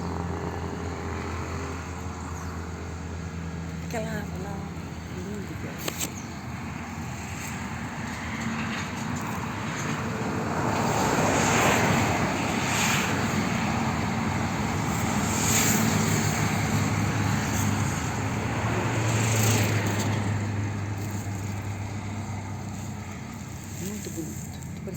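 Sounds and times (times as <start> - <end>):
vehicle engine humming: 0.0 - 24.9.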